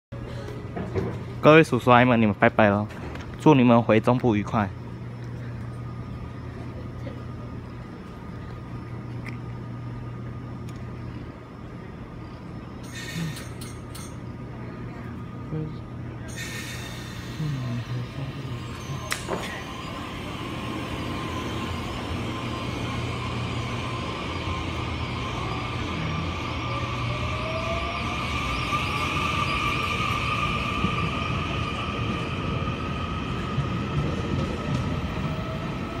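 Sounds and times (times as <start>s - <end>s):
electric train low hum: 0.1s - 36.0s.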